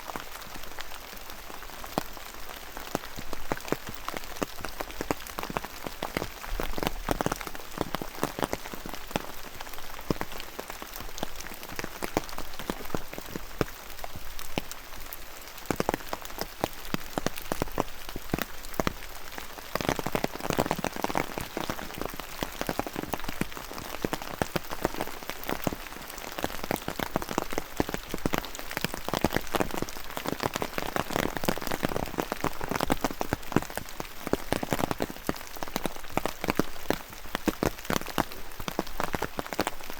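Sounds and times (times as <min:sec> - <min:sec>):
rain drops on wet surfaces: 0:00.0 - 0:39.9.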